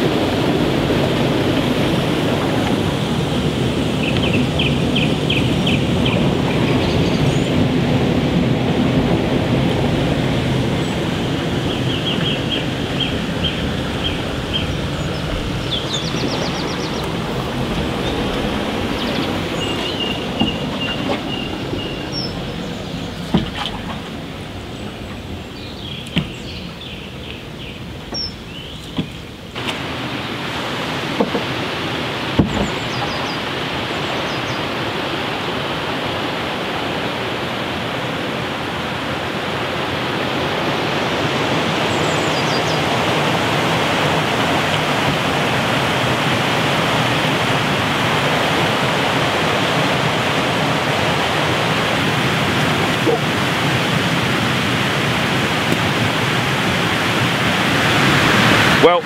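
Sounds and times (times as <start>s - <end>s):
water rushing over a weir: 0.0s - 59.0s.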